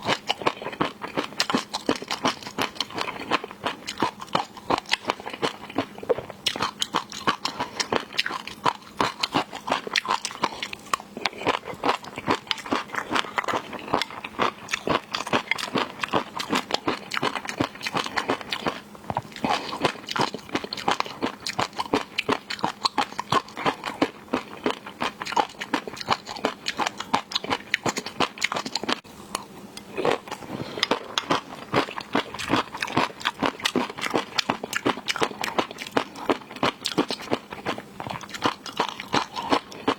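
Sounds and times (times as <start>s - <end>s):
crunching and wet chewing: 0.0s - 39.9s.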